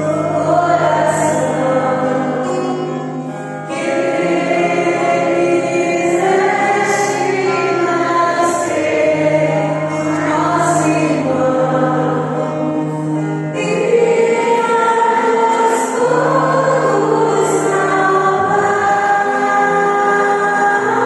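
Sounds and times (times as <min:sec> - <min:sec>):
choir singing: 0:00.0 - 0:21.0
soft accompaniment: 0:00.0 - 0:21.0.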